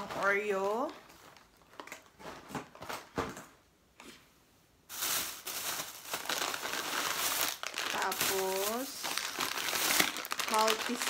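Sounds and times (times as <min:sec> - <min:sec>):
plastic packaging crinkling: 0:00.0 - 0:03.1, 0:04.9 - 0:11.0.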